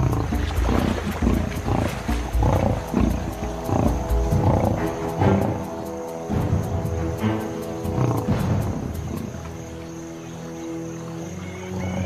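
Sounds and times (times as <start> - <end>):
lionesses growling: 0.0 - 9.7
background music with held notes: 0.0 - 12.0.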